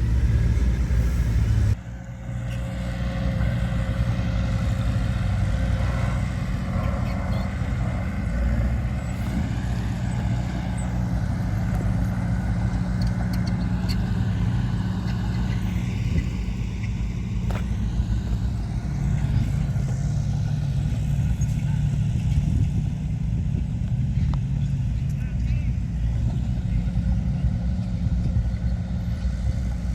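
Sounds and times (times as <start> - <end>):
diesel engine running steadily: 0.0 - 29.9.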